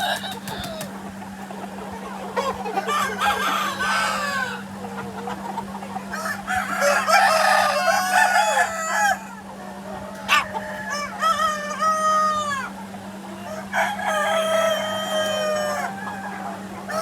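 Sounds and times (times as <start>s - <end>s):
chickens clucking and calling: 0.0s - 17.0s.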